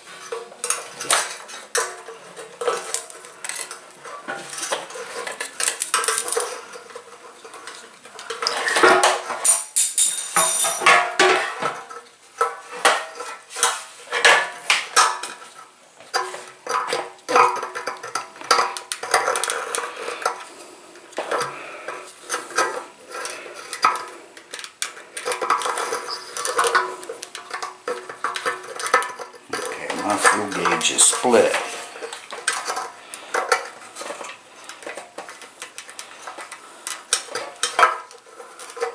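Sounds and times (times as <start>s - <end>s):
metallic clinking and scraping: 0.0s - 38.9s.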